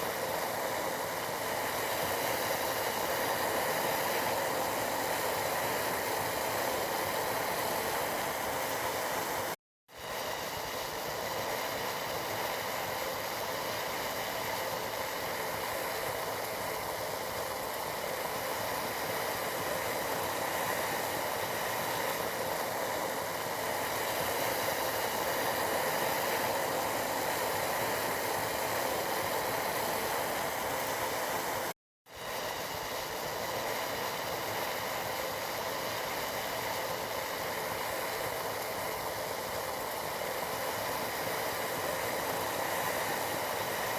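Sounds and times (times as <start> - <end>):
tea boiling in a pot: 0.0 - 43.9.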